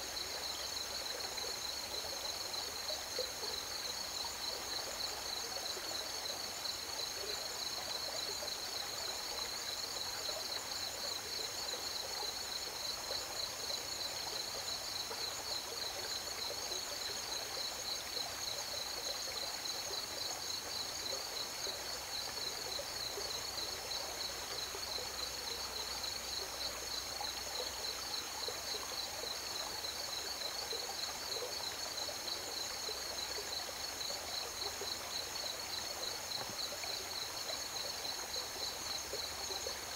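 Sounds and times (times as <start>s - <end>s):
crickets trilling: 0.0s - 39.9s
flowing river water: 0.0s - 39.9s.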